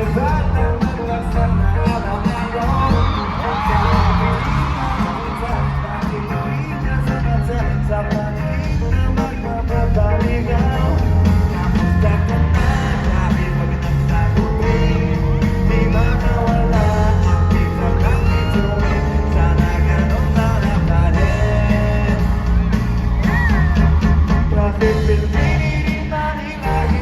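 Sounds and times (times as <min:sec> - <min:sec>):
live band music: 0:00.0 - 0:27.0
person singing: 0:00.0 - 0:27.0
steady bass: 0:00.0 - 0:27.0.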